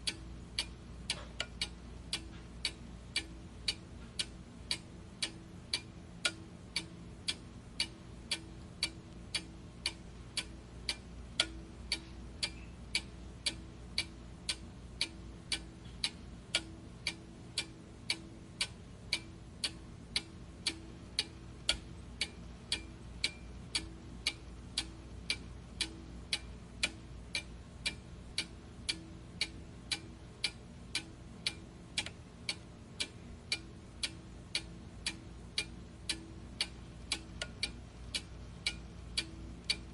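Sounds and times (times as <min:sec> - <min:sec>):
clock ticking: 0:00.0 - 0:39.9
faint low hum: 0:00.0 - 0:39.9.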